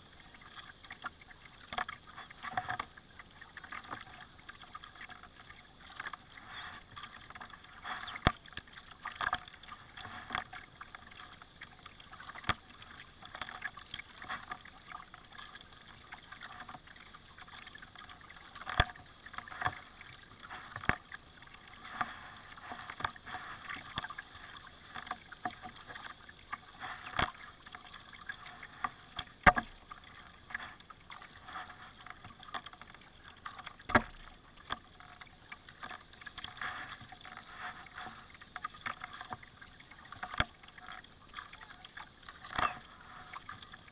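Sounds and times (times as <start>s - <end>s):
paddle splashing in water: 0.0s - 43.9s.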